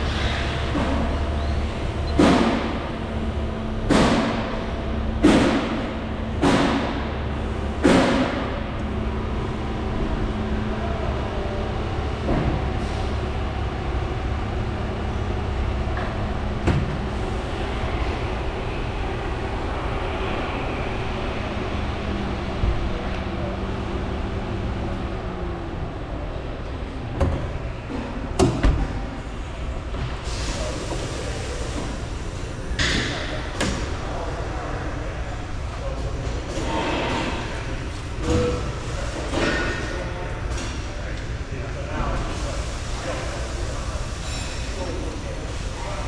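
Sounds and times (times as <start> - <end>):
steady mechanical hum: 0.0 - 46.0.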